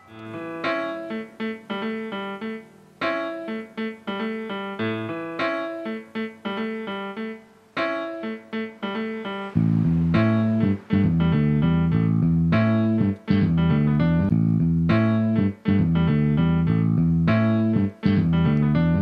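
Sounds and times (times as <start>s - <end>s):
piano notes and chords: 0.0s - 19.0s.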